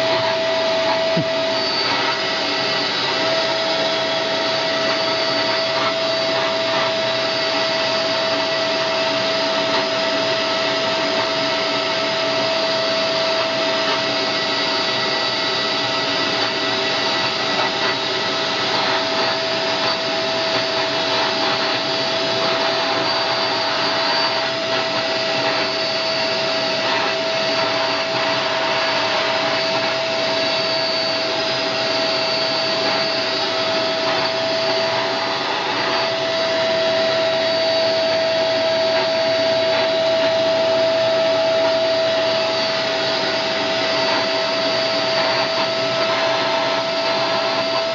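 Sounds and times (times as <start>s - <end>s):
vacuum cleaner motor running: 0.0s - 47.9s.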